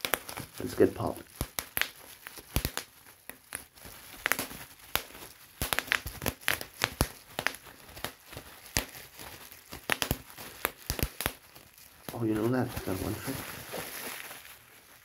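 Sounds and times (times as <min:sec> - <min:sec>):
bubble wrap popping: 0:00.0 - 0:15.0
plastic sheet crinkling: 0:00.0 - 0:15.0.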